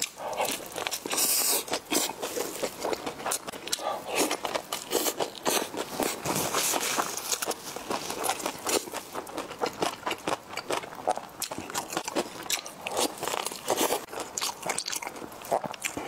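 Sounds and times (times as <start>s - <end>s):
wet chewing and smacking: 0.0s - 16.0s.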